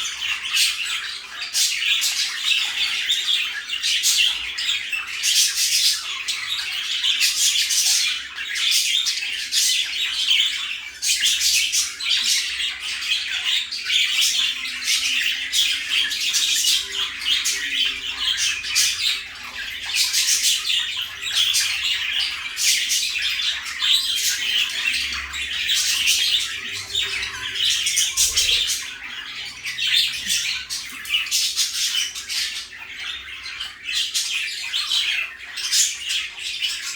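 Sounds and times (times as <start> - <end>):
budgerigars chirping and squawking: 0.0 - 36.9.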